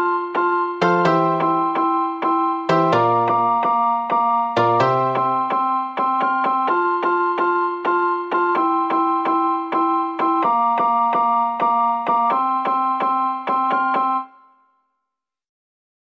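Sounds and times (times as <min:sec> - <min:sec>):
keyboard melody of repeated notes: 0:00.0 - 0:15.0.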